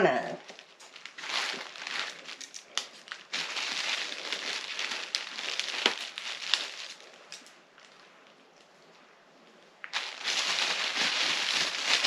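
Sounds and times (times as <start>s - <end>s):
protective wrapping crinkling: 0.4s - 9.0s, 9.8s - 12.0s.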